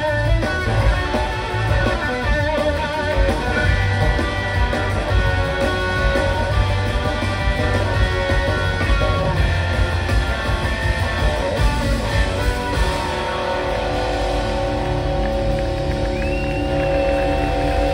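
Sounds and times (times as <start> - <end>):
electric guitar: 0.0 - 17.9
live rock band playing: 0.0 - 17.9.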